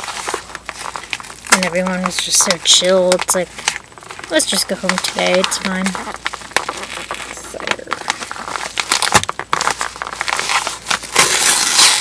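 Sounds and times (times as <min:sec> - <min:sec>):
package wrapping crinkling: 0:00.0 - 0:12.0.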